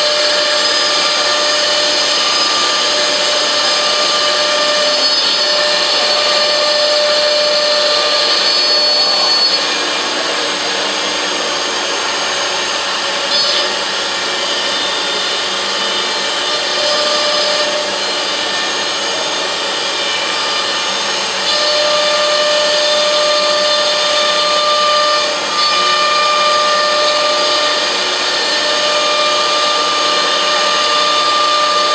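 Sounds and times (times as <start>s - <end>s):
cnc router spindles whining: 0.0s - 31.9s.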